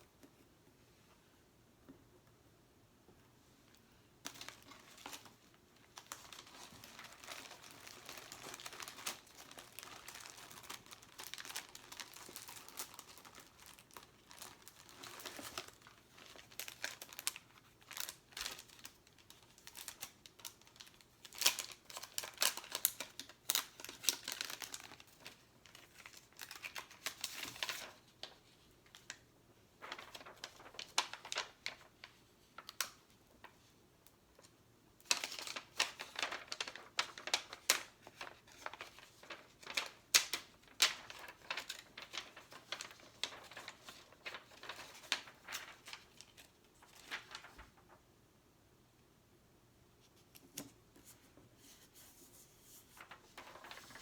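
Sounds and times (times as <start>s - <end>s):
sticker sheets crinkling: 4.2s - 29.2s, 29.8s - 33.0s, 35.0s - 47.9s, 50.4s - 54.0s.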